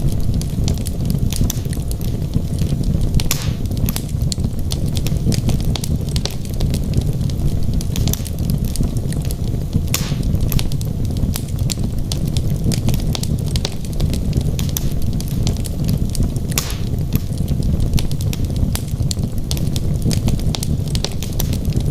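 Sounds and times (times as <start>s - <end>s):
fire crackles and pops: 0.0s - 21.9s
low rumble of fire: 0.0s - 21.9s.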